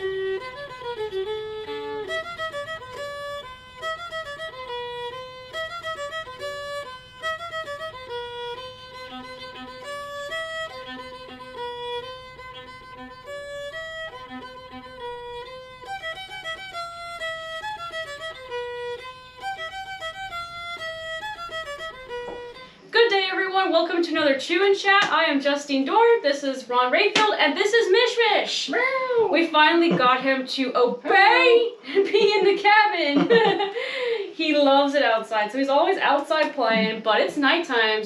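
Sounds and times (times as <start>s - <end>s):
fiddle melody: 0.0s - 28.2s, 29.4s - 38.0s.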